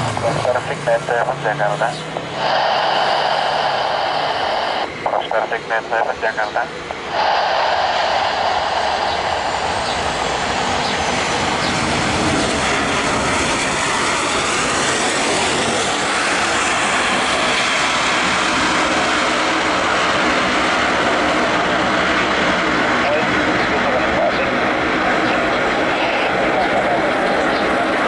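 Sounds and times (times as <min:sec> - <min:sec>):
jet airliner passing low: 0:00.0 - 0:28.0.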